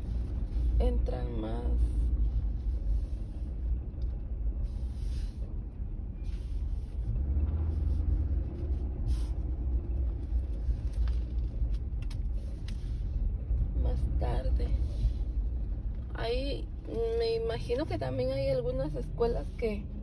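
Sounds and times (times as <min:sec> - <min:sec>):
engine rumble: 0:00.0 - 0:20.0
road noise inside moving truck: 0:00.0 - 0:20.0.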